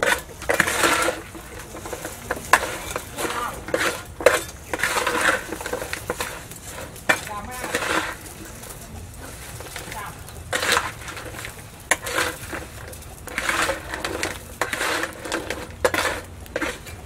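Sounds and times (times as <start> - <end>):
pots and dishes clinking: 0.0 - 17.0.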